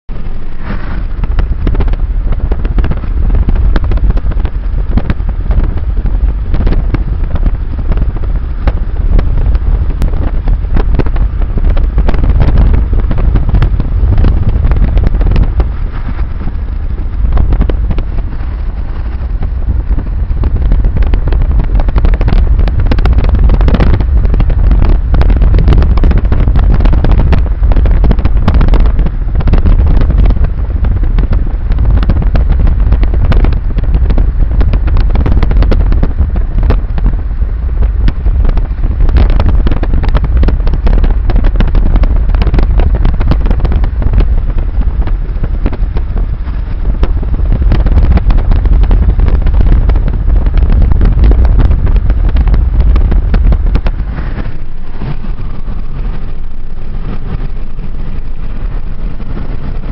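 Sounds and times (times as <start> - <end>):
road and car rumble: 0.0 - 59.9
wind buffeting microphone: 0.0 - 59.9.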